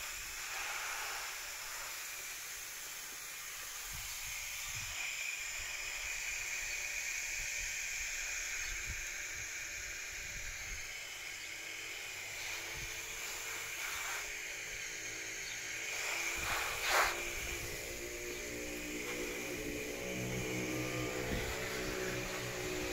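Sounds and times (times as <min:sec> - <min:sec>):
water spraying from garden hose: 0:00.0 - 0:22.9.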